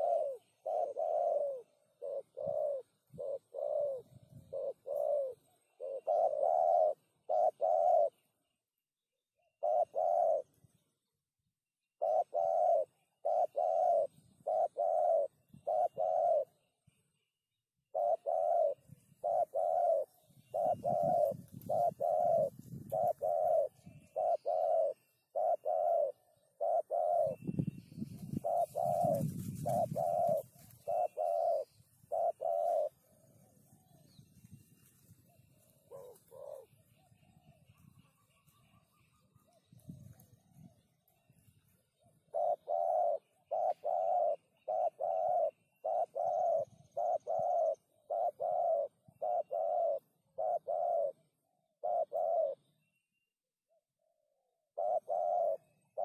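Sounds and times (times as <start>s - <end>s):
dove cooing: 0.0s - 8.6s, 9.4s - 11.1s, 11.9s - 16.9s, 17.9s - 52.8s, 54.0s - 56.0s.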